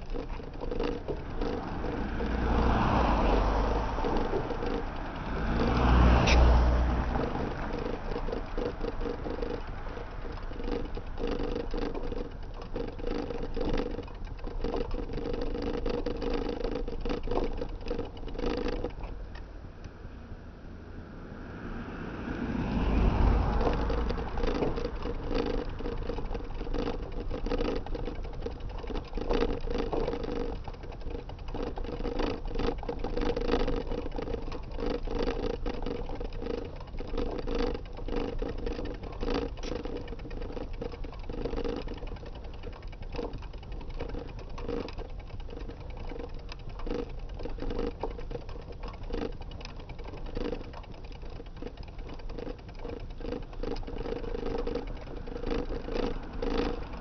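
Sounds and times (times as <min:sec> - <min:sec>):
rattling: 0:00.0 - 0:19.5, 0:22.8 - 0:57.0
vehicle running on road: 0:00.0 - 0:57.0.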